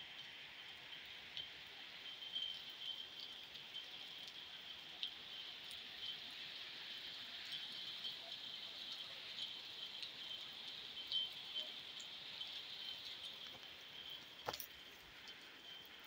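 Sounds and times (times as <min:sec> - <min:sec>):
raindrops clicking nearby: 0:00.1 - 0:16.0.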